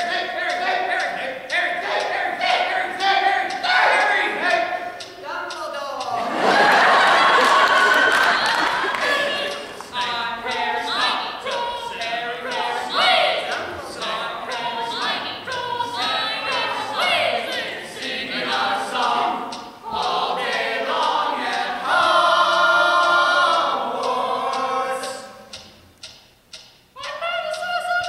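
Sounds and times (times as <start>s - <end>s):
young voices singing together: 0.0s - 25.7s.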